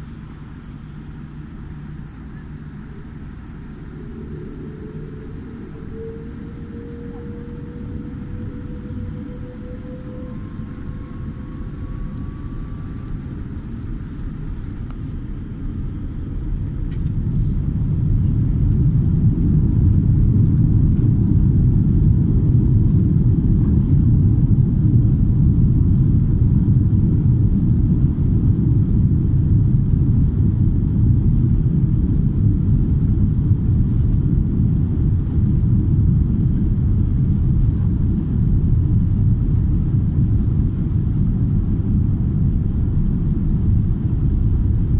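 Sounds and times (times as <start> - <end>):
airliner cabin engine rumble: 0.0 - 44.9
faint rising engine whine: 0.0 - 44.9.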